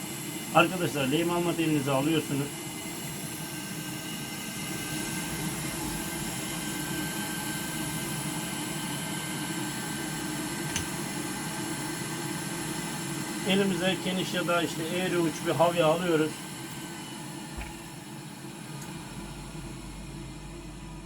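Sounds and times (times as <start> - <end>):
small electric fan whirring: 0.0 - 21.0.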